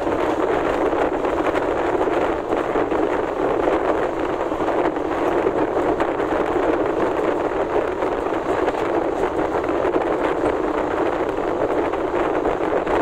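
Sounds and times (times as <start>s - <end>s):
train wheels rushing on rail: 0.0s - 13.0s
wind buffeting microphone: 0.0s - 13.0s.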